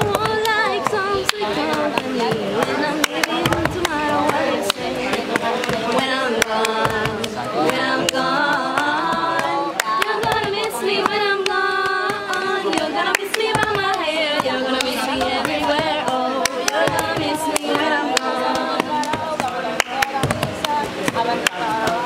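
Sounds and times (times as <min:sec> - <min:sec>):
hand claps: 0:00.0 - 0:22.0
women singing together: 0:00.0 - 0:22.0.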